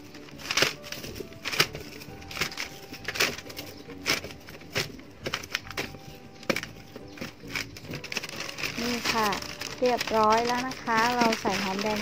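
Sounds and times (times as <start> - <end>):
paper rustling: 0.0 - 12.0
shallots knocking together: 0.3 - 12.0.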